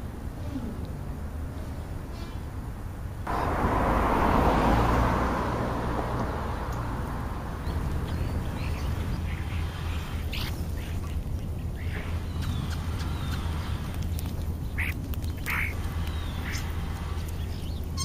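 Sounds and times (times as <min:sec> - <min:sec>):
vehicle passing: 0:01.0 - 0:18.0.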